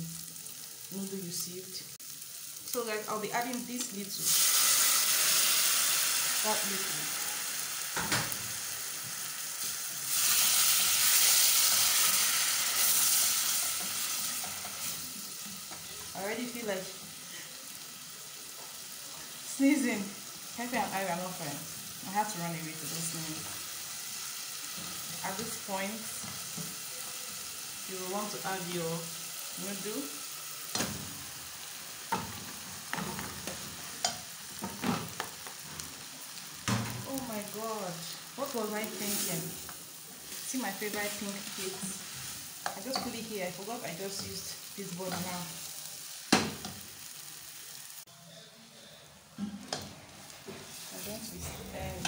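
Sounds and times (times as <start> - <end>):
sauce sizzling in oil: 0.0 - 48.1, 49.6 - 52.0.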